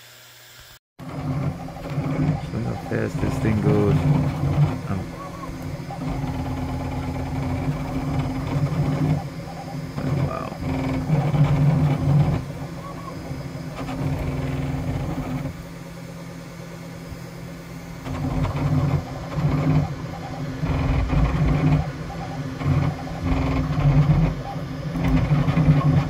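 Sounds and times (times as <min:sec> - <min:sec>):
steady machine hum: 0:00.0 - 0:26.0
printer motors buzzing: 0:01.0 - 0:26.0.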